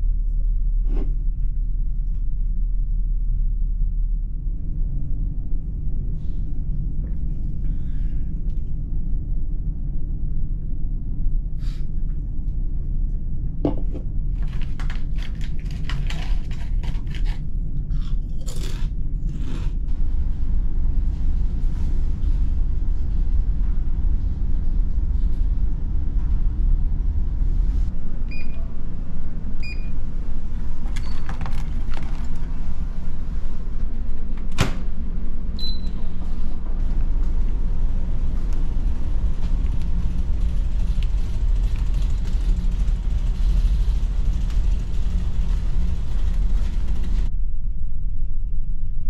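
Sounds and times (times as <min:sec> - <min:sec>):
low engine rumble: 0:00.0 - 0:49.0.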